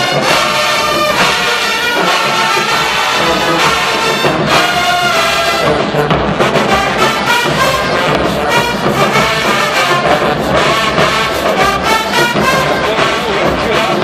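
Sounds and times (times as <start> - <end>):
brass section playing chords: 0.0 - 14.0
driving drum beat: 0.0 - 14.0.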